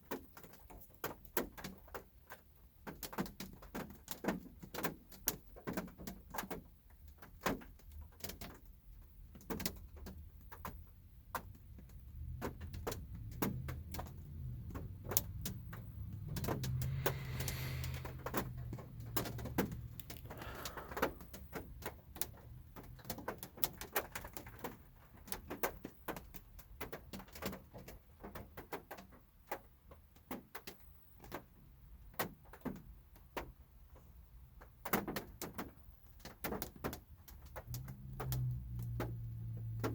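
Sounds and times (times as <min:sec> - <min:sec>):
raindrops tapping on car roof: 0:00.0 - 0:39.9.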